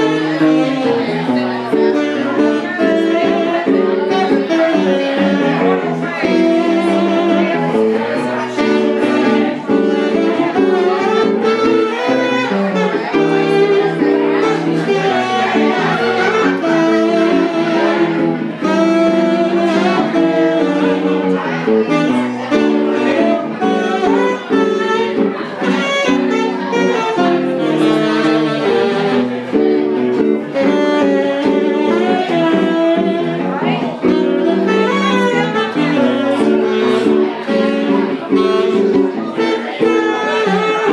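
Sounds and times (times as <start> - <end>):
guitar chords: 0.0 - 40.9
saxophone melody: 0.0 - 40.9.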